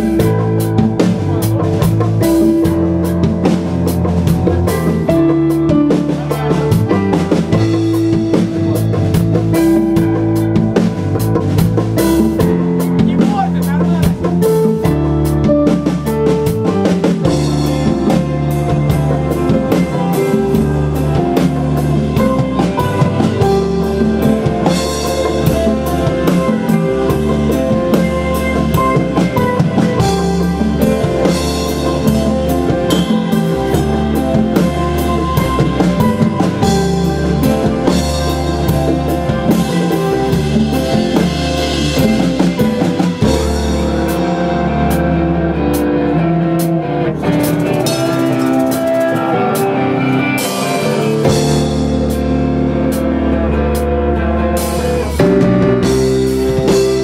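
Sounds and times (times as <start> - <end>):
drum kit steady beat: 0.0 - 57.0
electric guitar: 0.0 - 57.0
keyboard: 0.0 - 57.0.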